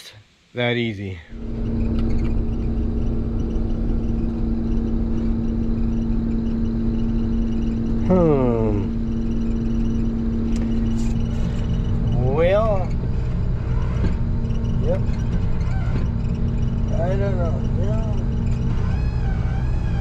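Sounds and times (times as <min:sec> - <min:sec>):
combine harvester droning hum: 0:01.2 - 0:20.0.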